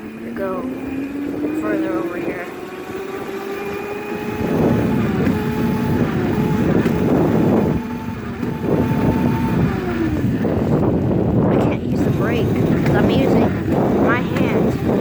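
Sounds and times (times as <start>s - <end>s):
dirt bike engine running: 0.0s - 15.0s
wind buffeting microphone: 0.0s - 15.0s.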